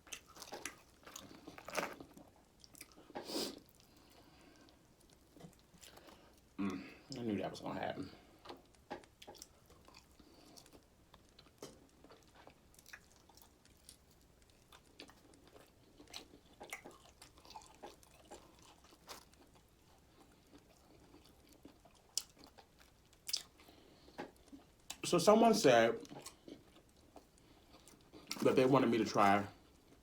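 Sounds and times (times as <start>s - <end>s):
chewing fried food: 0.0s - 7.2s, 8.0s - 25.0s, 26.0s - 28.6s, 29.2s - 30.0s.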